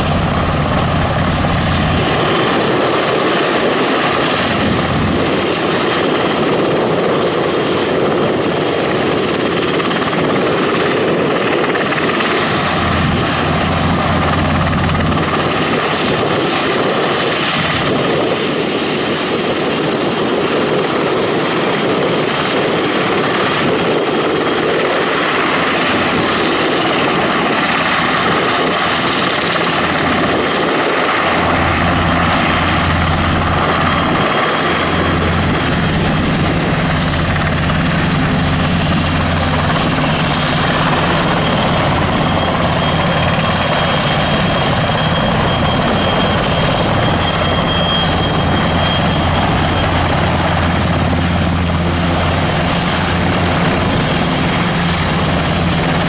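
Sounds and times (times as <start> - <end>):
helicopter rotor and engine noise: 0.0 - 56.0
high turbine whine: 0.0 - 56.0.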